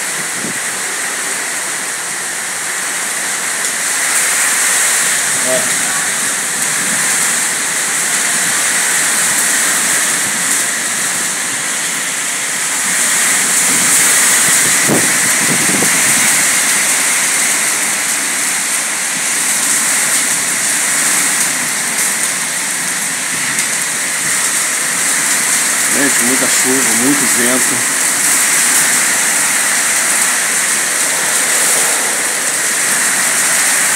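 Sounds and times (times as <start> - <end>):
heavy rain in strong wind: 0.0 - 33.9.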